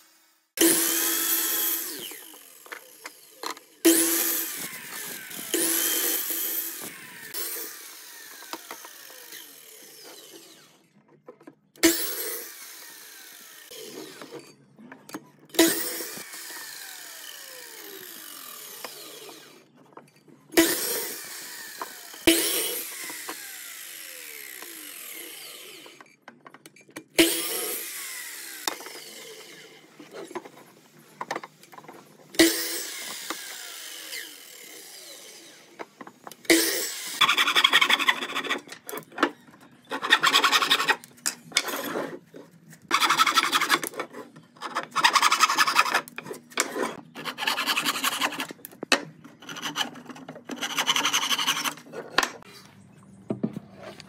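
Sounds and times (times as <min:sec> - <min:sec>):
miter saw cutting wood: 0:00.0 - 0:11.0, 0:11.8 - 0:14.5, 0:15.5 - 0:19.8, 0:20.6 - 0:26.1, 0:27.2 - 0:39.1, 0:39.8 - 0:42.2, 0:42.9 - 0:48.6, 0:49.3 - 0:52.5.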